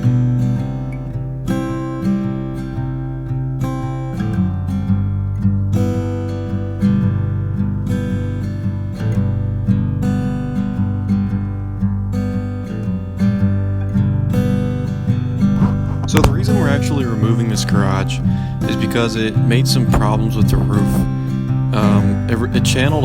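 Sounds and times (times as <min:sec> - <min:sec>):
strummed acoustic guitar music: 0:00.0 - 0:23.0.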